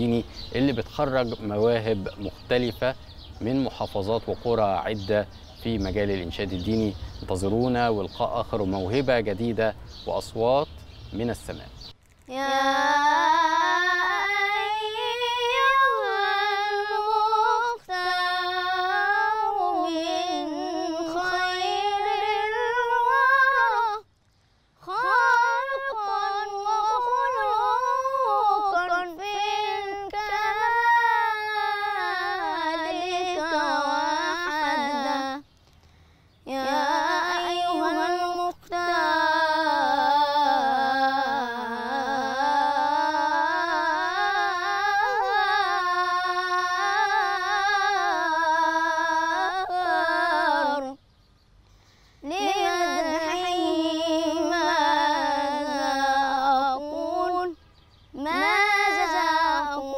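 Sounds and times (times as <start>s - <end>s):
boy singing devotional chant: 0.0s - 10.5s, 12.2s - 24.1s, 24.8s - 35.5s, 36.3s - 51.3s, 52.0s - 59.9s.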